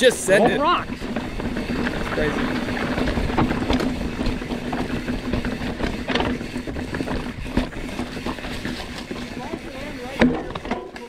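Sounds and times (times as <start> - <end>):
mountain bike rattling over rocks: 0.0 - 11.0.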